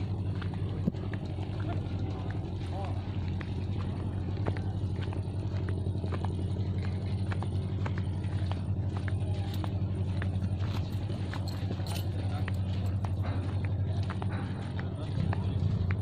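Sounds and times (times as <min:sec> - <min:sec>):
engine droning: 0:00.0 - 0:16.0
light clicks and rattles: 0:00.2 - 0:16.0.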